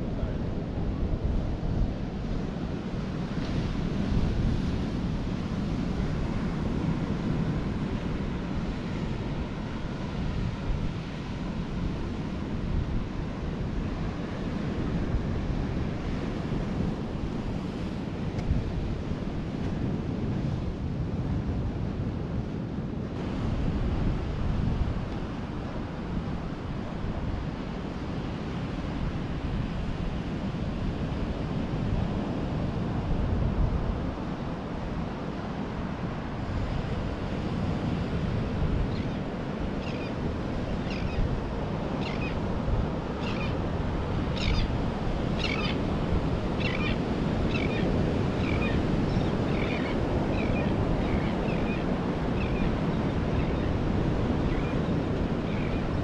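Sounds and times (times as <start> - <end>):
ocean surf on a beach: 0.0 - 56.0
wind on microphone: 0.0 - 56.0.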